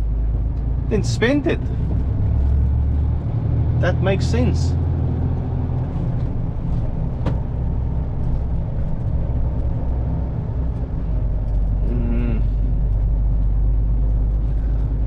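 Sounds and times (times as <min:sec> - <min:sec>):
lorry engine running: 0:00.0 - 0:15.0.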